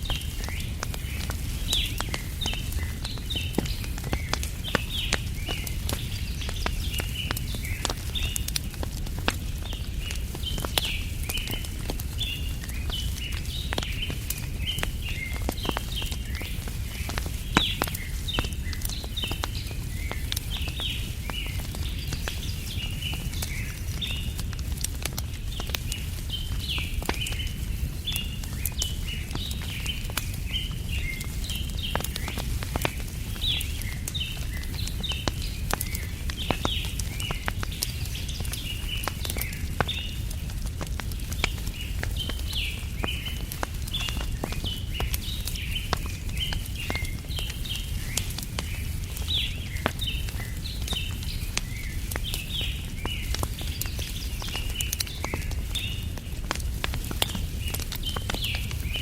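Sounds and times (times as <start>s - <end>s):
small birds chirping: 0.0s - 59.0s
wood fire crackling and popping: 0.0s - 59.0s.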